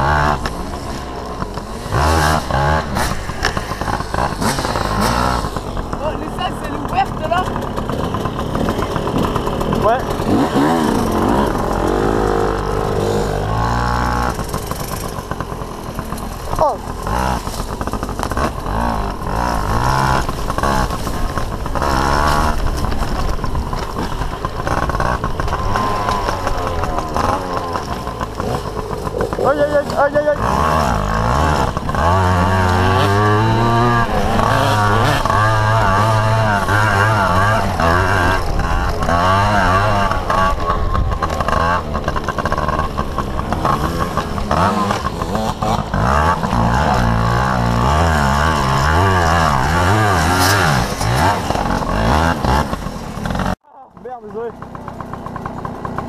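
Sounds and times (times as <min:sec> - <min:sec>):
small motorbike engine revving: 0:00.0 - 0:56.0.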